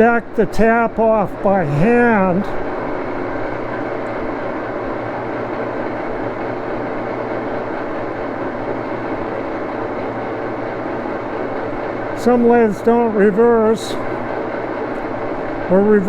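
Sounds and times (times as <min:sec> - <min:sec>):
lathe humming and whirring: 0:00.0 - 0:16.0.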